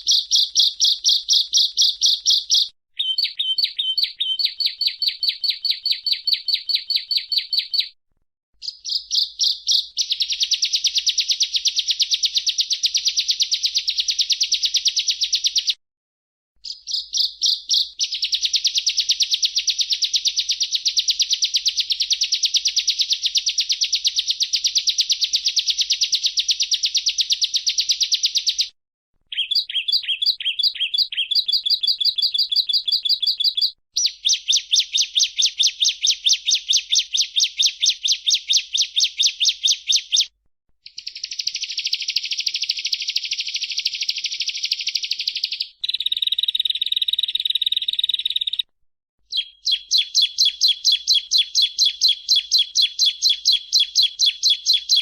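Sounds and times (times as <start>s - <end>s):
bird song of rapid chips: 0.0s - 8.0s, 8.6s - 15.8s, 16.6s - 48.7s, 49.3s - 55.0s.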